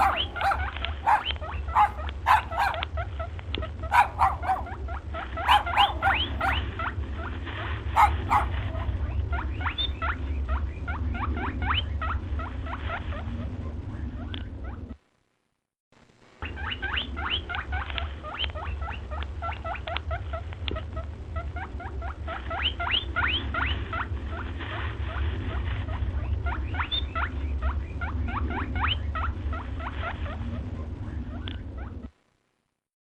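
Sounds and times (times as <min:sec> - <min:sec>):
small animal squeaking: 0:00.0 - 0:15.0, 0:16.4 - 0:32.1
steady low rumble: 0:00.0 - 0:15.2, 0:16.0 - 0:32.4.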